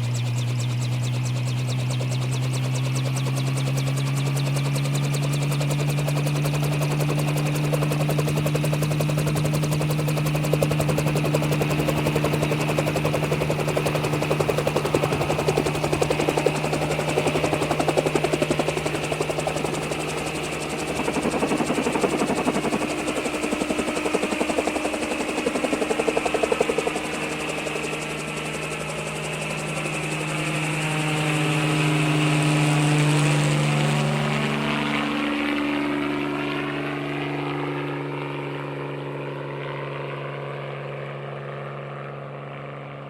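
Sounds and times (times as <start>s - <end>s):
helicopter rotor blades chopping: 0.0s - 42.8s
helicopter engine hum: 0.0s - 43.0s.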